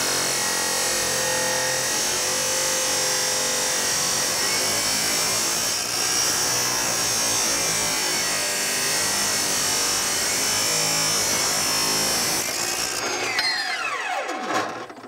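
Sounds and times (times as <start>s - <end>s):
chop saw grinding steel: 0.0s - 15.0s.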